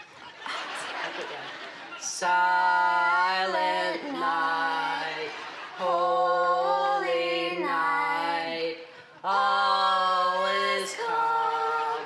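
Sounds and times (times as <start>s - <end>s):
women singing a cappella: 2.0s - 12.0s.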